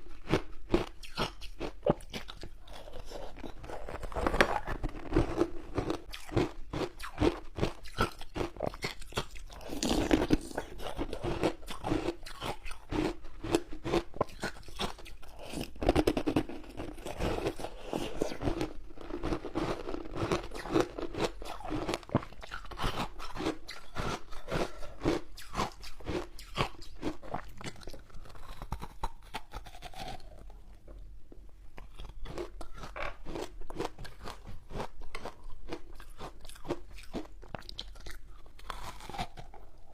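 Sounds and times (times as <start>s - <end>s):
chewing ice crunches: 0.1s - 30.6s, 31.8s - 39.9s.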